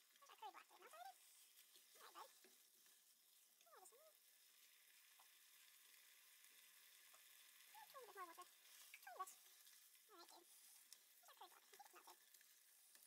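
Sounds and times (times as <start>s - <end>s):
spatula stirring thick sauce: 0.0s - 13.0s.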